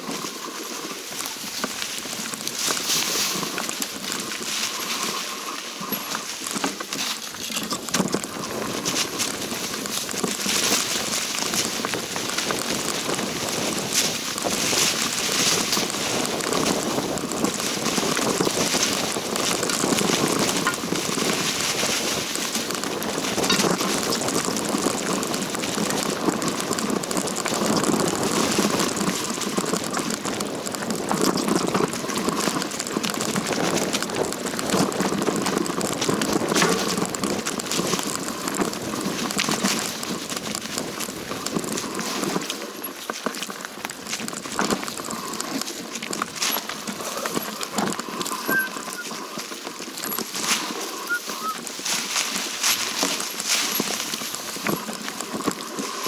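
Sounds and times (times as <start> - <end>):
footsteps crunching on dry leaves: 0.0 - 56.0.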